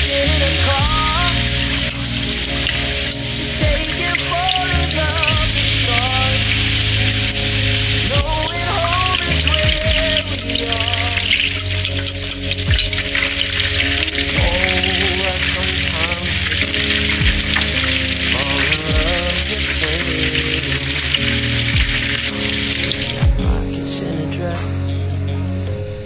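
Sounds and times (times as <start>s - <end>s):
fish deep-frying in hot oil: 0.0s - 23.3s.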